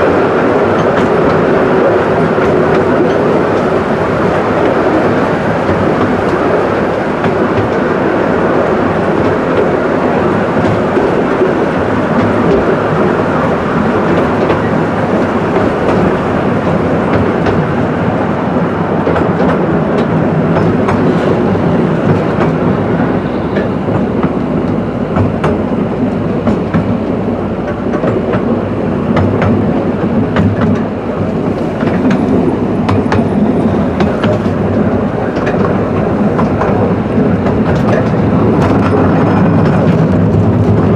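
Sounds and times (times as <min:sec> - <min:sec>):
carriages rumbling and rattling: 0:00.0 - 0:40.9
wheels clicking over rail joints: 0:00.0 - 0:40.9.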